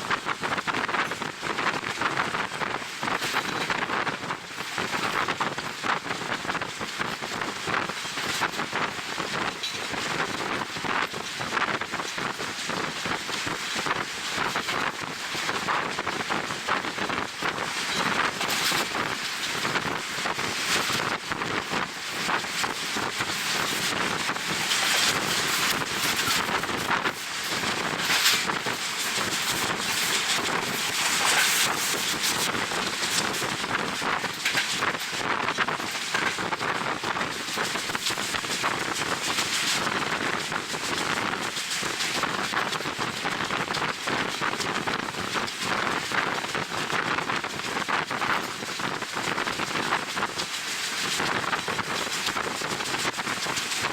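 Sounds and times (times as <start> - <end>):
train running noise: 0.0 - 53.9
wind buffeting microphone: 0.0 - 53.9.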